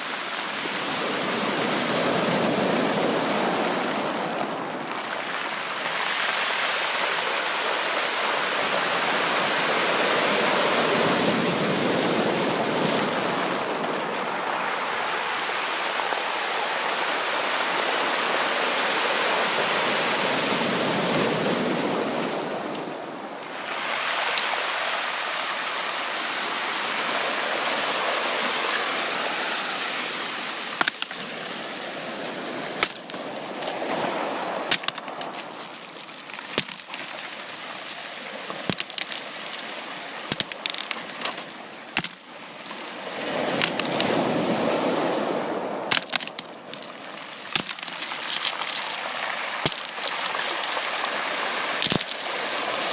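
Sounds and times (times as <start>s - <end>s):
surf waves washing on beach: 0.0s - 52.9s.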